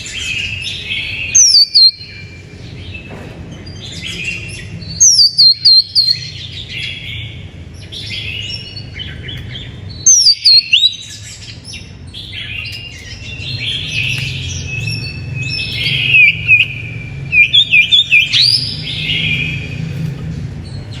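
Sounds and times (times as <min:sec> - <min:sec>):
bird singing whistles and chirps: 0:00.0 - 0:02.4, 0:03.7 - 0:19.8.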